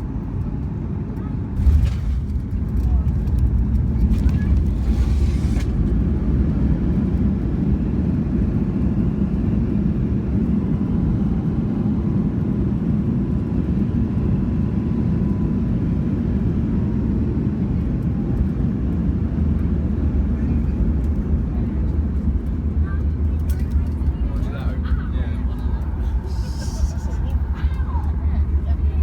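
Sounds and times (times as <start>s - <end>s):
airplane cabin low rumble: 0.0s - 29.0s.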